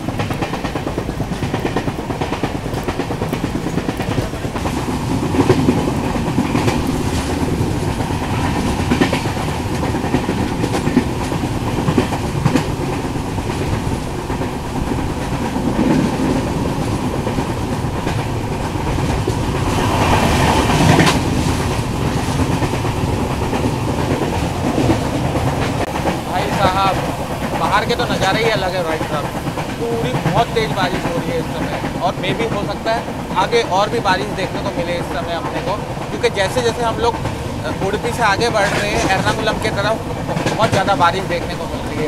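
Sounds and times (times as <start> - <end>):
clacks over rail joints: 0.0 - 42.0
train wheels rumbling on track: 0.0 - 42.0.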